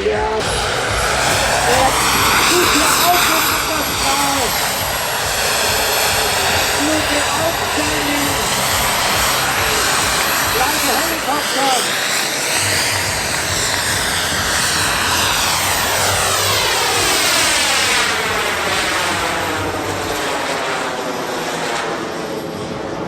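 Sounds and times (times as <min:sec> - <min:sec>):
model aircraft engine passing: 0:00.0 - 0:23.0.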